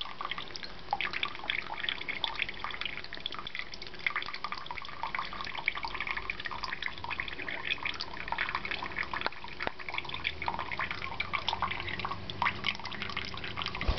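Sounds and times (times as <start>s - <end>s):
water trickling into basin: 0.0s - 13.9s.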